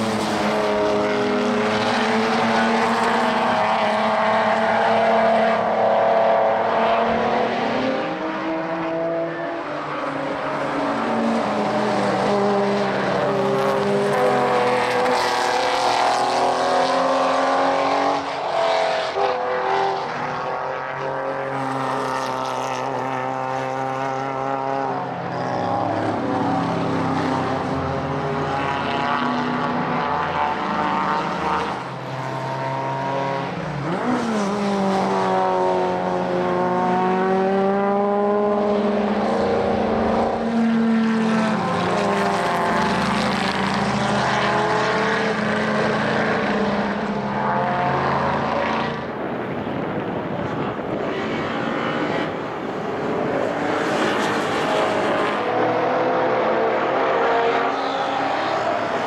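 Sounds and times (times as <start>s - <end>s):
racing car engines passing: 0.0s - 59.0s.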